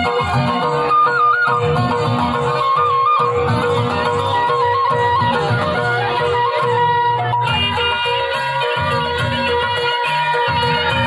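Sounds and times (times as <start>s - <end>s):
folk dance music: 0.0s - 11.0s.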